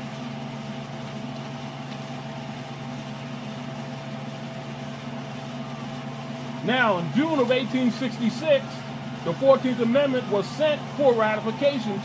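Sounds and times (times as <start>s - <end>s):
low hum of constant tones: 0.0s - 12.0s.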